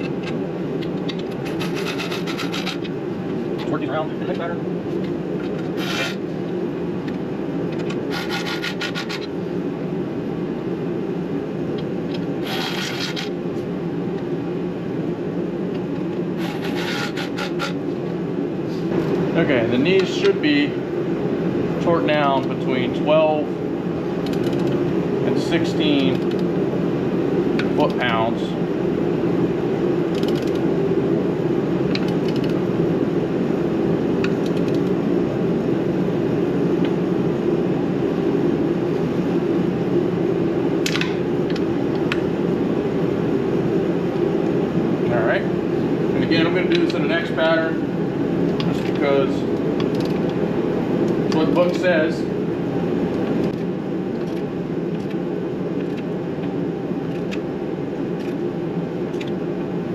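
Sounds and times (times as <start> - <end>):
fan droning: 0.0 - 59.9.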